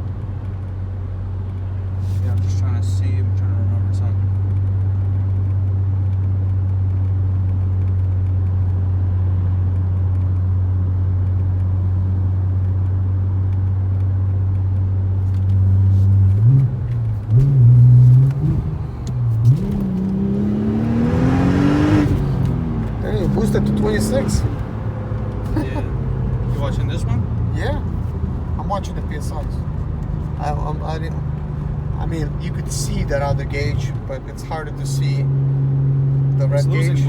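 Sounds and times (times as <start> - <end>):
car engine revving and accelerating: 1.5 - 37.0.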